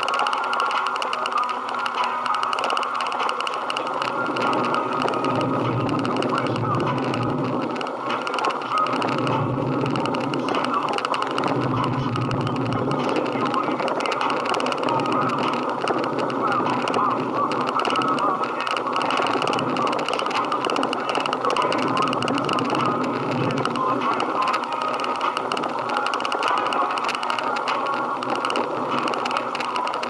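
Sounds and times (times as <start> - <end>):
many voices talking: 0.0 - 30.0
vehicle noise: 0.0 - 30.0.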